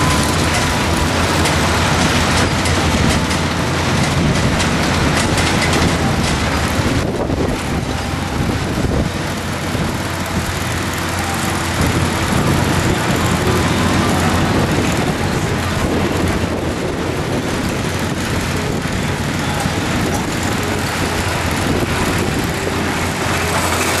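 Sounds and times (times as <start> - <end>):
roller coaster rumbling on track: 0.0 - 24.0.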